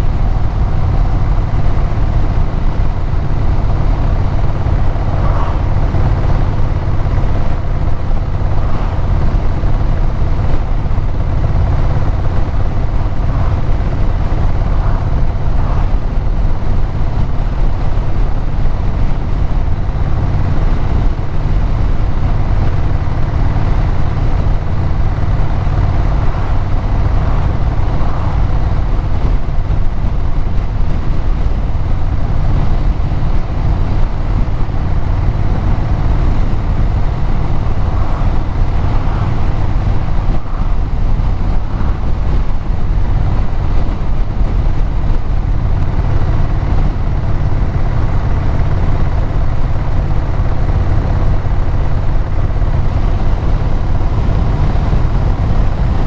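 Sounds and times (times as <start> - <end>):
road and wind noise: 0.0 - 56.0
vehicle engine and exhaust: 0.0 - 56.0.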